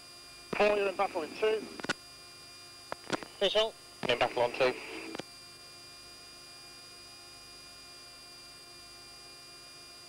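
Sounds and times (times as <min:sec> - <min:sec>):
electrical hum: 0:00.0 - 0:10.0
high steady whine: 0:00.0 - 0:10.0.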